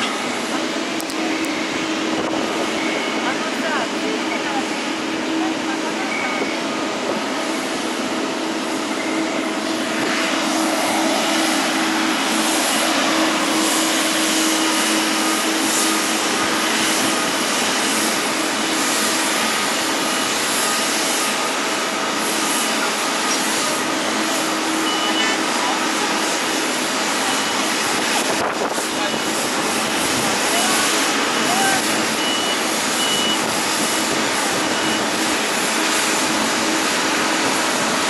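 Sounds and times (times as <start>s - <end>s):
jet engines rushing: 0.0s - 38.0s.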